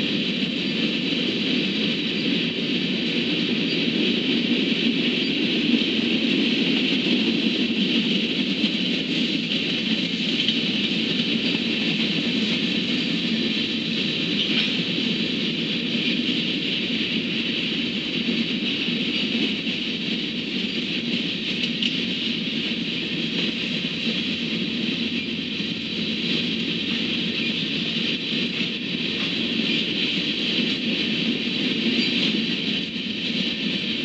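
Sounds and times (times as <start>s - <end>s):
freight train rolling past: 0.0s - 34.0s.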